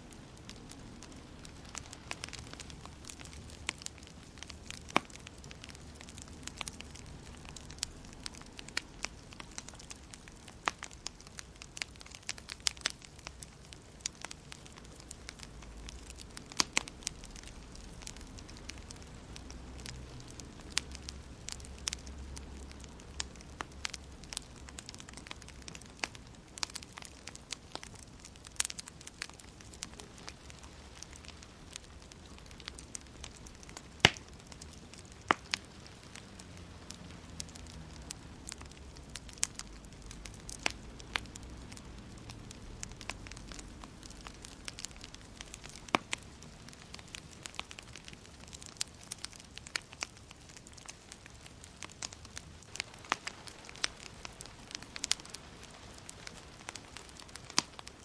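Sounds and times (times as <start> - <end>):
fire low rumble: 0.0 - 58.0
wood fire crackling and popping: 0.0 - 58.0.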